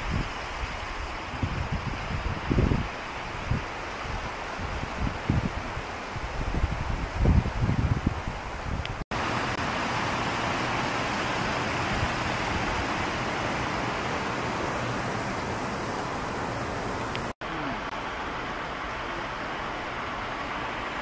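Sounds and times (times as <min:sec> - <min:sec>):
dull outdoor noise: 0:00.0 - 0:21.0
river rushing over rapids: 0:00.0 - 0:21.0.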